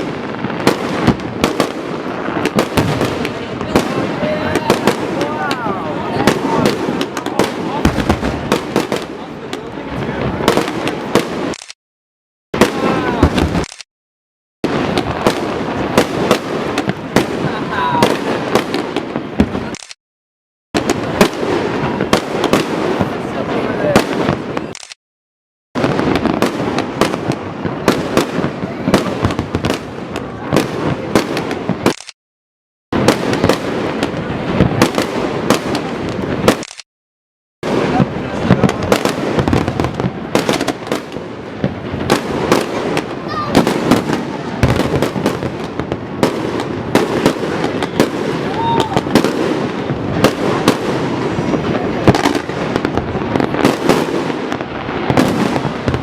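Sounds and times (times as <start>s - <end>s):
fireworks bangs and pops: 0.0s - 11.8s, 12.6s - 13.9s, 14.6s - 20.0s, 20.8s - 25.0s, 25.8s - 32.2s, 32.9s - 36.9s, 37.6s - 56.0s.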